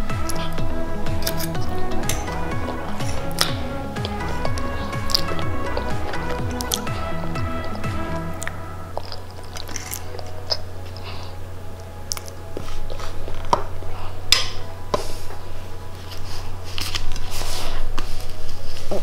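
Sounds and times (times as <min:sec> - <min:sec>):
child chewing: 0:00.0 - 0:19.0
steady low hum: 0:00.0 - 0:19.0.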